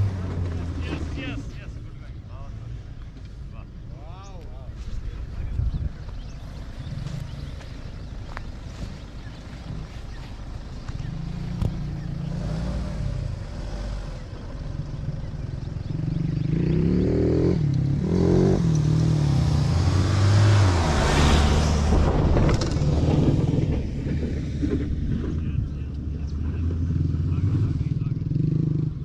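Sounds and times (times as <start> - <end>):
car engine revving: 0.0 - 2.0, 6.4 - 29.0.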